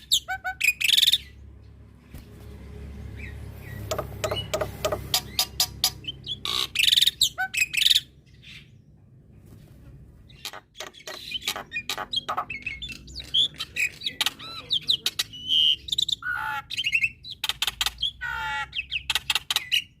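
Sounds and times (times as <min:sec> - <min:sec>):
bird singing varied song: 0:00.0 - 0:02.1, 0:02.9 - 0:09.0, 0:10.2 - 0:20.0.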